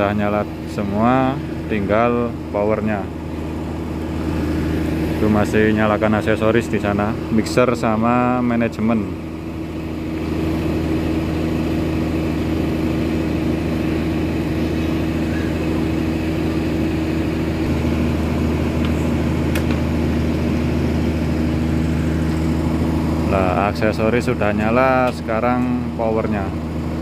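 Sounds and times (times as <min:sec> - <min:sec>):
engine droning hum: 0:00.0 - 0:27.0.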